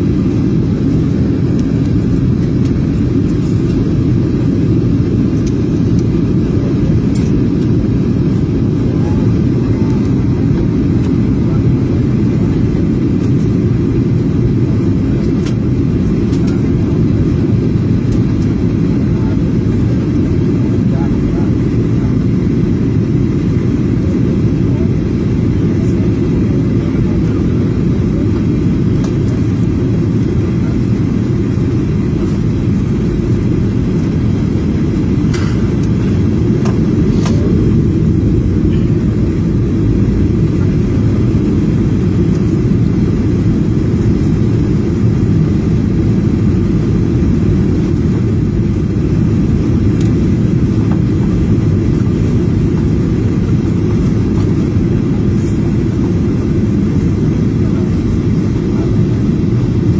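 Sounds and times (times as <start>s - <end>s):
airliner cabin roar: 0.0s - 59.9s.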